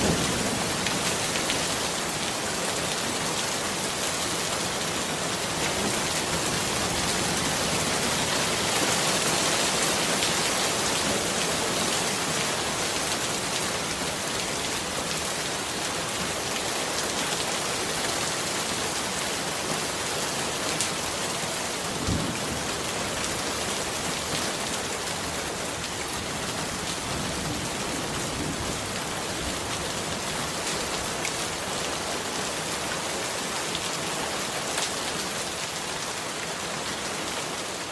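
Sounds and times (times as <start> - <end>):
rain falling on leaves: 0.0 - 37.9.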